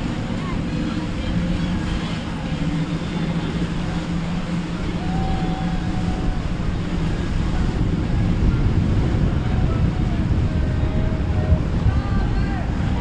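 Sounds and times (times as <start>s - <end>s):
low rumble of boat engines: 0.0s - 13.0s
surf: 0.0s - 13.0s
wind noise on microphone: 0.0s - 13.0s.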